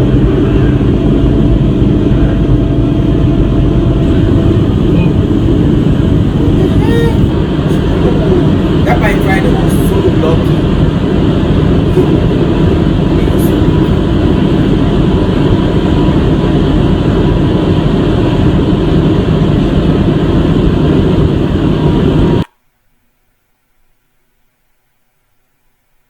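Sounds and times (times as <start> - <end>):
vehicle engine and road noise: 0.0 - 22.4.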